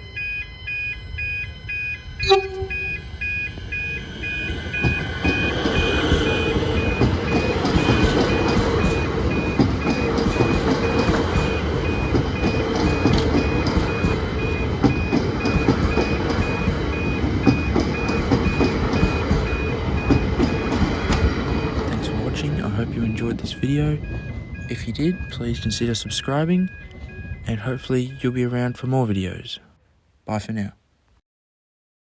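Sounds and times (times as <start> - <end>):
reversing alarm beeping: 0.0 - 29.6.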